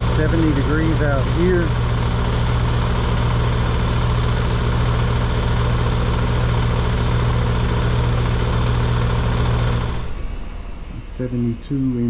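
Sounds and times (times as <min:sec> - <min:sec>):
compressor hum: 0:00.0 - 0:12.0
condenser fan rushing: 0:00.0 - 0:12.0.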